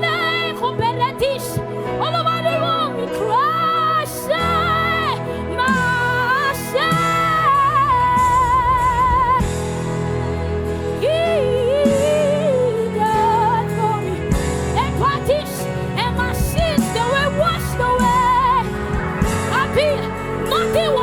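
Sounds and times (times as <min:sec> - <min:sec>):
person singing with vibrato: 0:00.0 - 0:21.0
sustained instrumental chords: 0:00.0 - 0:21.0.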